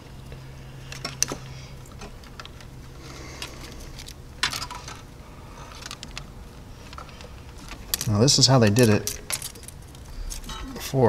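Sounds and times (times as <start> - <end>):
hands rustling wires: 0.0 - 11.0
low steady hum: 0.0 - 11.0.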